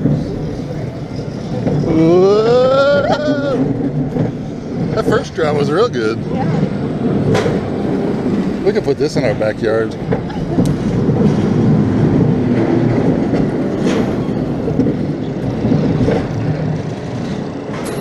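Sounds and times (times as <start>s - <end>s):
roller coaster rumbling rattle: 0.0s - 18.0s.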